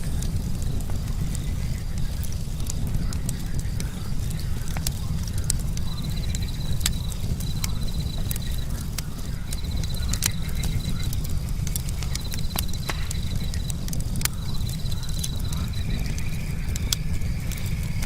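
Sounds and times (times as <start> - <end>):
campfire crackling and popping: 0.0 - 18.0
steady low rumble: 0.0 - 18.0
cricket trilling: 0.1 - 18.0.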